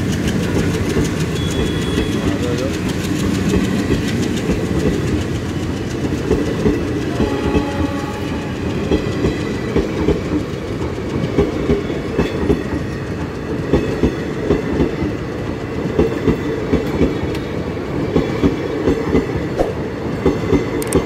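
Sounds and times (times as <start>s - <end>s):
train coaches rumbling past: 0.0s - 21.0s
wheels clickety-clack on rail joints: 0.0s - 21.0s.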